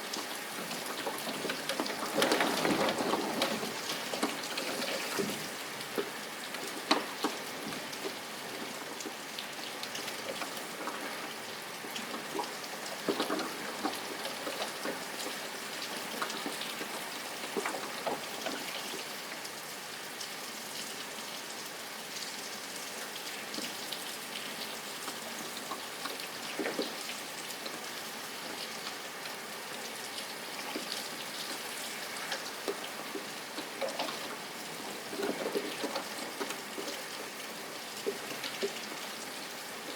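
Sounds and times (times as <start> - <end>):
raindrops striking a surface: 0.0 - 39.9
steady rain falling: 0.0 - 39.9.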